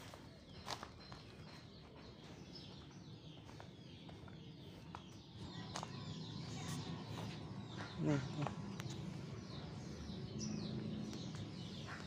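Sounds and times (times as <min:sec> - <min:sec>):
footsteps: 0:00.0 - 0:09.8
small birds chirping: 0:00.0 - 0:12.0.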